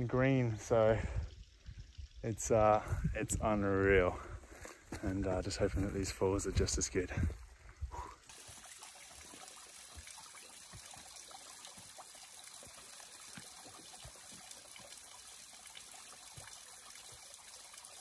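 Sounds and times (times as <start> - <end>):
stream trickling faintly: 0.0 - 18.0.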